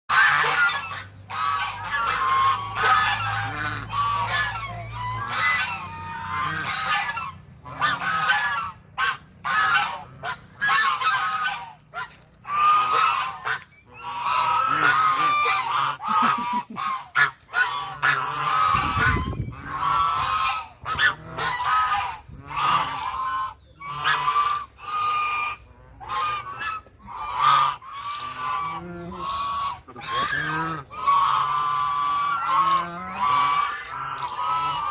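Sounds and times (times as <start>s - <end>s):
waterfowl honking: 0.1s - 34.9s.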